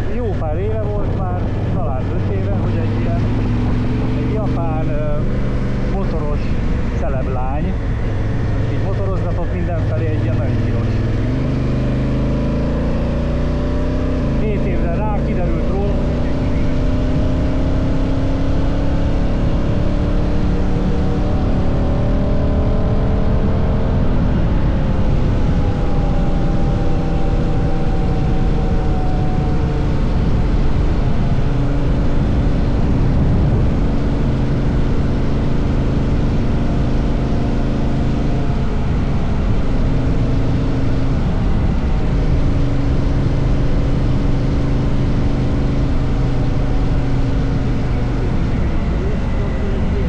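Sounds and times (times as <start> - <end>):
wind rushing over microphone: 0.0 - 14.8, 16.0 - 50.0
motorcycle engine running: 0.0 - 50.0.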